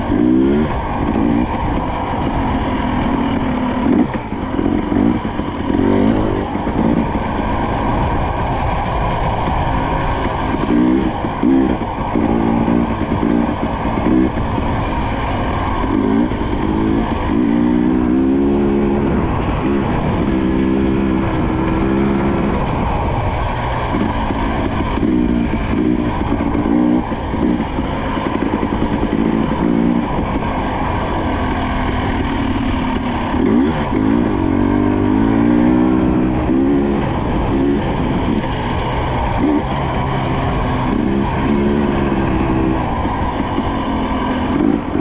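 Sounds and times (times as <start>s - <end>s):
dirt bike engine revving: 0.0s - 45.0s
steady rushing noise: 0.0s - 45.0s.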